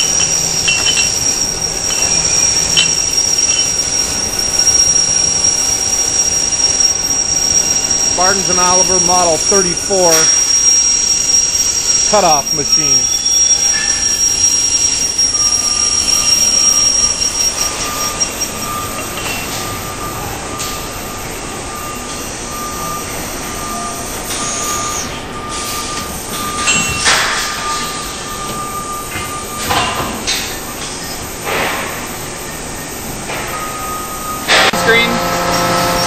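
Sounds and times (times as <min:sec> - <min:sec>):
industrial machinery whining: 0:00.0 - 0:29.6, 0:33.6 - 0:36.0.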